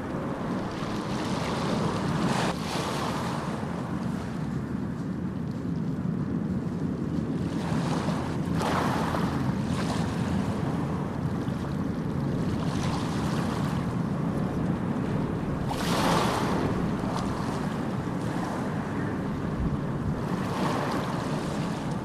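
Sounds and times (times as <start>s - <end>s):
sea waves washing in: 0.0s - 5.9s, 6.5s - 22.0s
wind rumble on microphone: 0.0s - 22.0s.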